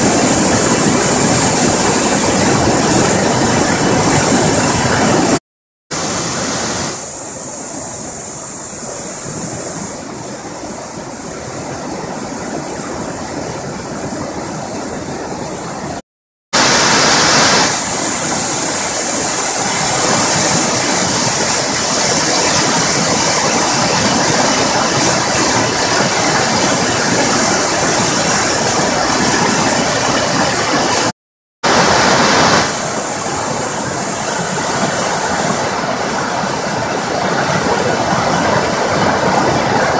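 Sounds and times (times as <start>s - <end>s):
floodwater roaring over a weir: 0.0s - 16.0s, 16.6s - 39.9s.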